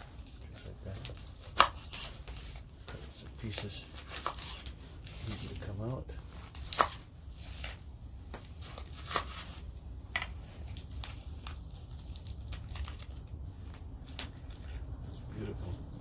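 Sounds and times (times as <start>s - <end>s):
plastic packaging crinkling: 0.0s - 9.7s, 10.4s - 15.9s.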